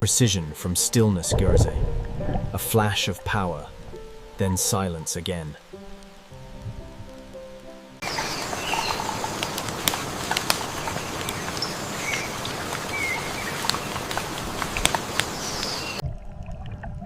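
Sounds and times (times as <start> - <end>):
steady outdoor hiss: 0.0 - 16.0
birds chirping: 0.8 - 16.0.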